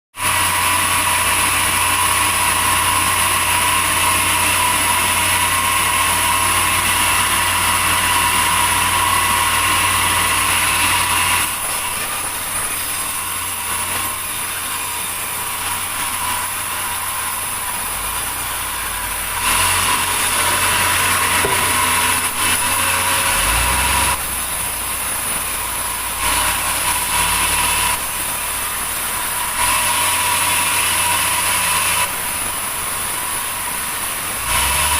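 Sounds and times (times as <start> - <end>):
sawmill saw humming and whining: 0.2 - 34.9.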